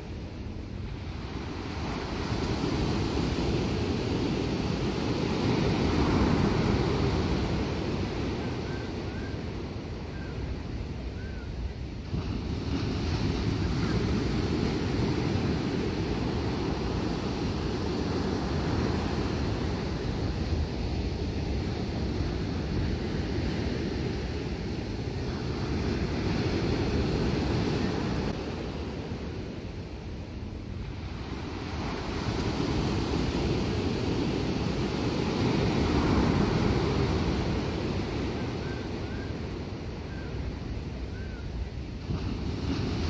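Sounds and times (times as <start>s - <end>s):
ocean surf breaking on beach: 0.0s - 43.0s
wind rumbling on microphone: 0.0s - 43.0s.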